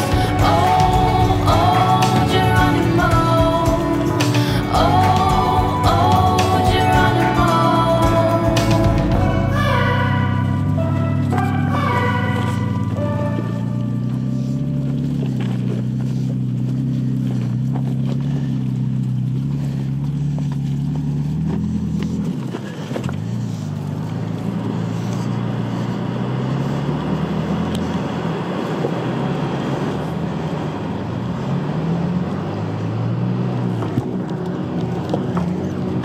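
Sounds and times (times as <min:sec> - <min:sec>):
truck engine running at low speed: 0:00.0 - 0:36.0.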